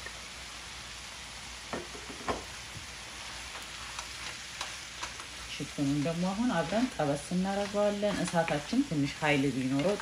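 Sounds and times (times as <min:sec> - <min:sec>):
chicken and onion sizzling in oil: 0:00.0 - 0:10.0.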